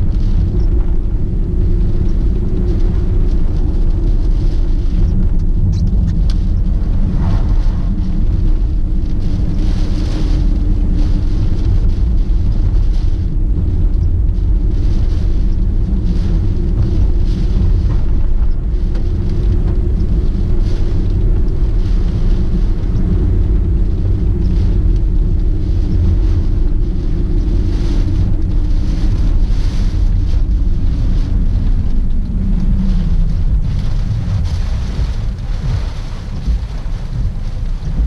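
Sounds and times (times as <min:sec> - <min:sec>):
car rumble on road: 0:00.0 - 0:38.0
heavy wind and rain: 0:00.0 - 0:38.0.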